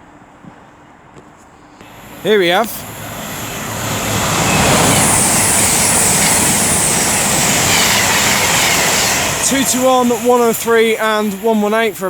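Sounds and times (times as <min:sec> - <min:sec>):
train passing at speed: 0:01.8 - 0:12.0.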